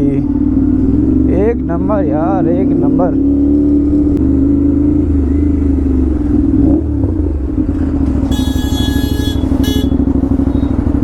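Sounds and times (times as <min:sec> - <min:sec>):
motorcycle engine revving: 0:00.2 - 0:11.0.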